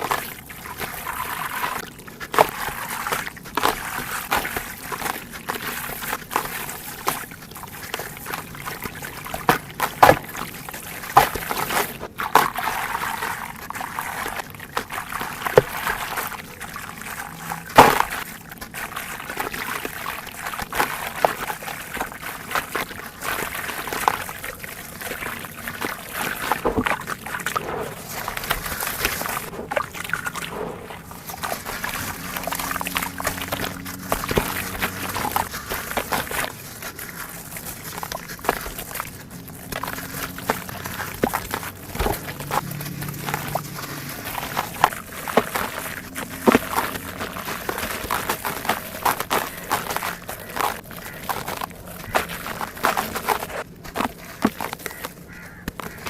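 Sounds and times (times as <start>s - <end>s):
dirt and coal being crushed: 0.0s - 56.0s.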